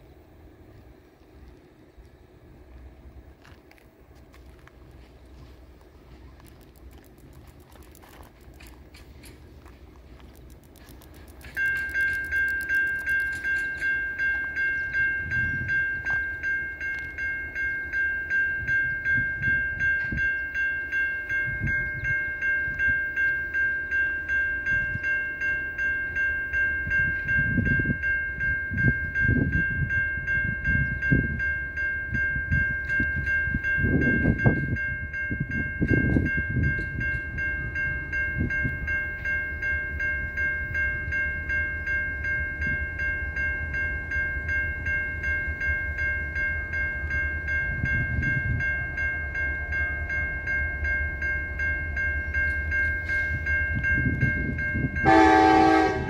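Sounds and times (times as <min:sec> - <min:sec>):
crossing bell ringing: 0:02.4 - 0:56.0.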